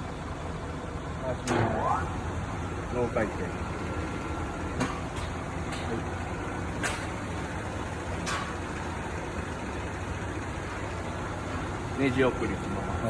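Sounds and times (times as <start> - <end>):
lathe humming: 0.0 - 13.0.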